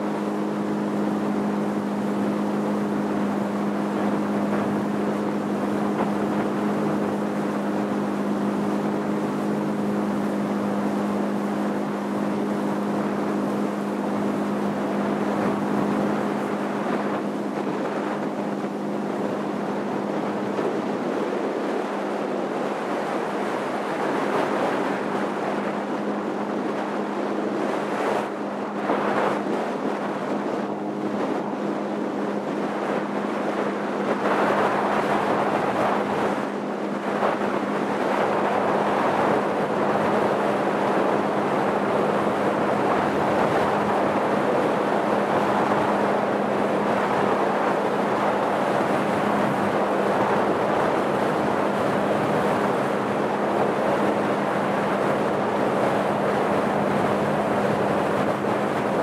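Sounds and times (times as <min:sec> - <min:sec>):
boat engine hum: 0:00.0 - 0:59.0
water splashing along hull: 0:00.0 - 0:59.0
wind buffeting microphone: 0:00.0 - 0:59.0.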